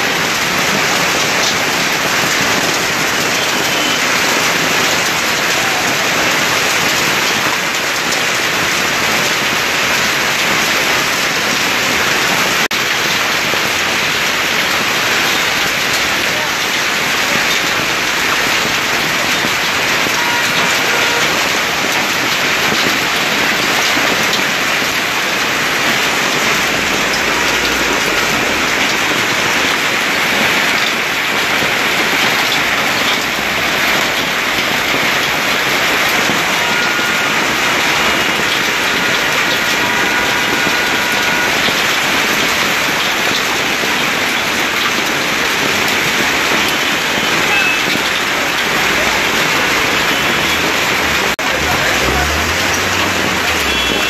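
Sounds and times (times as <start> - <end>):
hail and rain on cars and street: 0.0 - 54.0.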